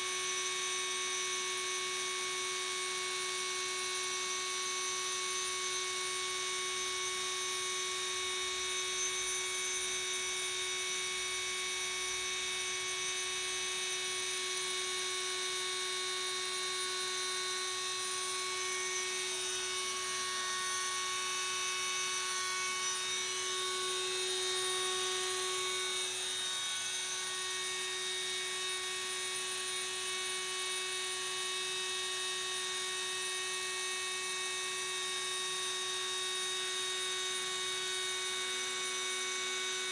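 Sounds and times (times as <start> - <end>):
rotary tool high-pitched whine: 0.0 - 39.9.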